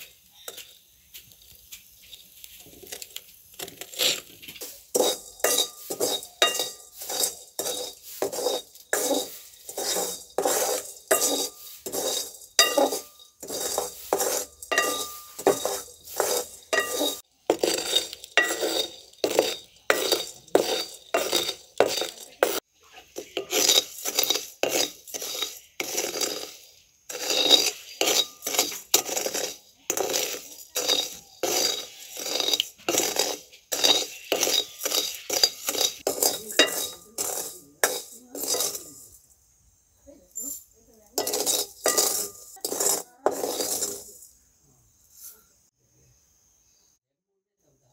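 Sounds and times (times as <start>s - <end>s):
spatula scraping rice in a wok: 0.0s - 39.3s, 41.0s - 44.4s.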